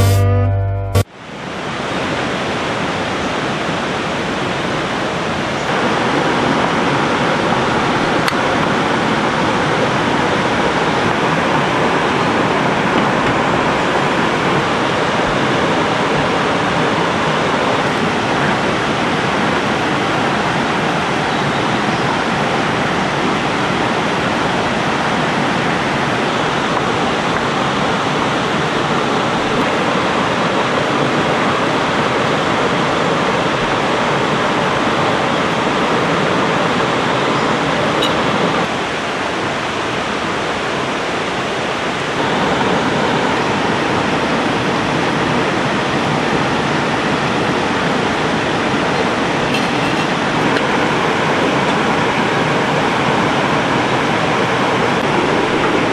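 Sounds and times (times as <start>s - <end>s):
river water rushing over rocks: 1.1s - 55.9s.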